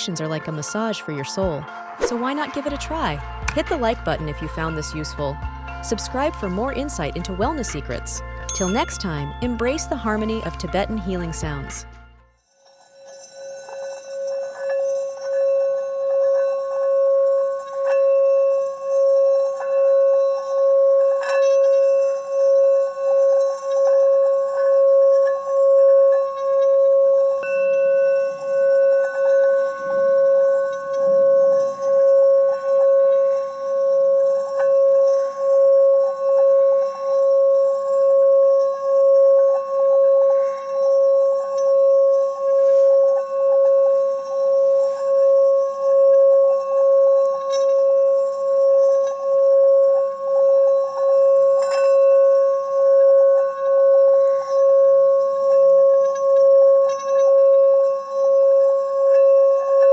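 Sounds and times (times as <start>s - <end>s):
singing bowl ringing: 0.2s - 59.9s.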